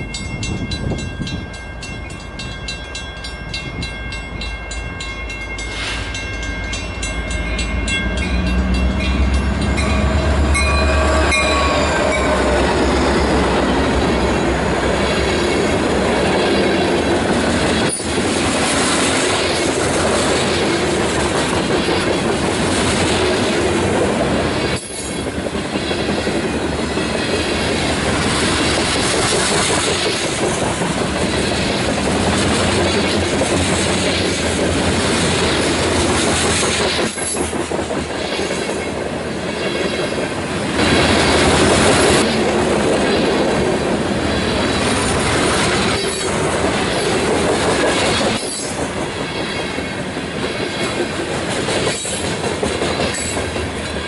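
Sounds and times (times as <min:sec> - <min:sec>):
diesel locomotives rumbling: 0:00.0 - 0:54.0
train wheel-and-rail clatter: 0:00.0 - 0:54.0.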